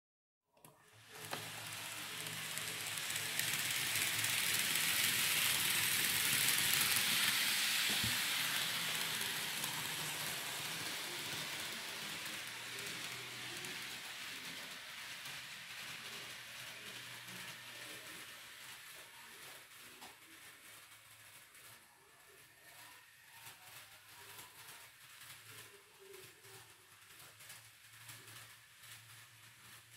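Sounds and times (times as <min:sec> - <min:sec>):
model train running on track: 0:00.7 - 0:29.9.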